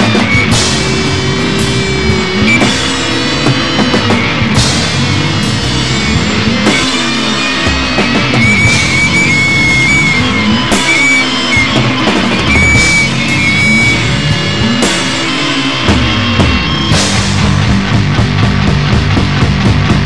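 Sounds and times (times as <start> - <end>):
high wavering guitar line: 0.0 - 19.2
noise rock band playing: 0.0 - 20.0.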